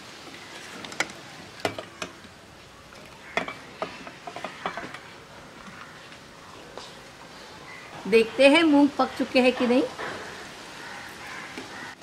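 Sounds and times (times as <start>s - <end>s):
water boiling: 0.0s - 12.0s.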